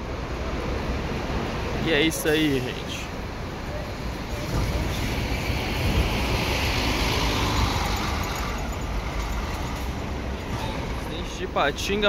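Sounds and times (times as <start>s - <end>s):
coach engine rumbling: 0.0s - 12.0s.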